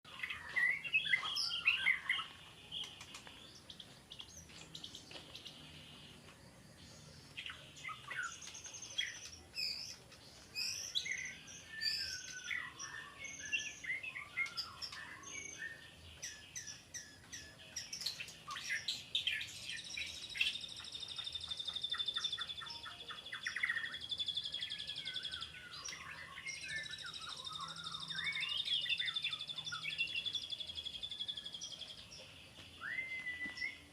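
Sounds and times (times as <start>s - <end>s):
songbird singing varied song: 0.0s - 33.9s.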